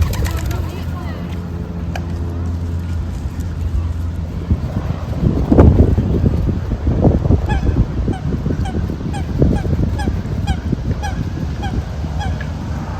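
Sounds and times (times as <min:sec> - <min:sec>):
geese honking: 0:00.0 - 0:12.9
steady low rumble: 0:00.0 - 0:12.9.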